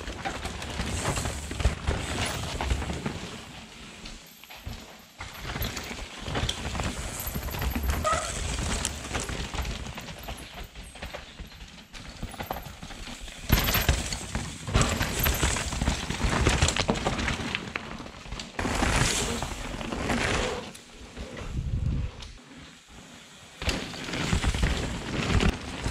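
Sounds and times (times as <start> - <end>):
bike tyres crunching on stones: 0.0 - 25.9
bikes rattling: 0.0 - 25.9.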